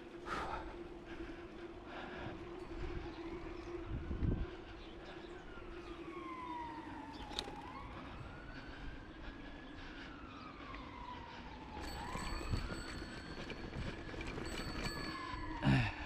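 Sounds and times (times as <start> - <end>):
siren wailing: 1.6 - 16.0.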